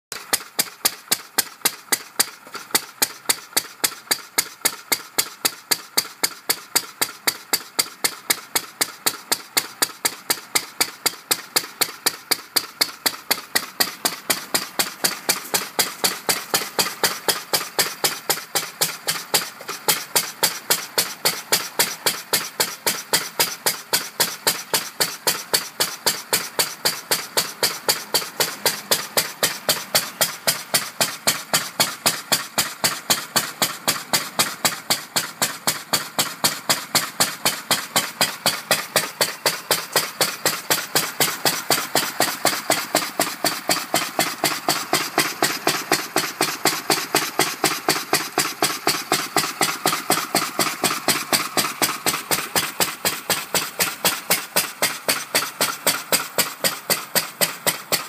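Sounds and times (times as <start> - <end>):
stationary engine running: 0.1 - 58.0.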